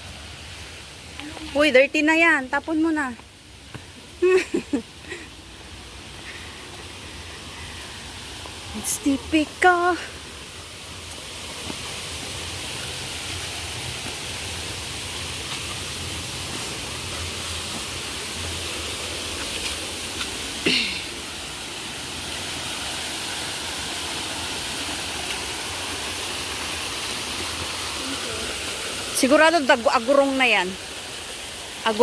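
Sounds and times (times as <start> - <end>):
stream rushing: 0.0 - 32.0.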